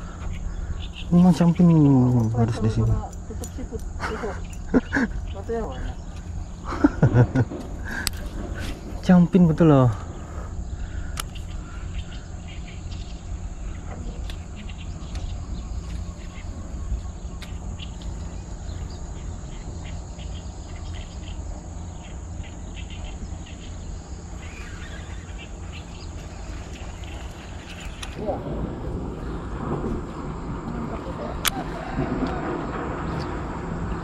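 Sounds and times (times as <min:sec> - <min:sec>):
high-pitched insect drone: 0:00.0 - 0:34.0
low even rumble: 0:00.0 - 0:34.0.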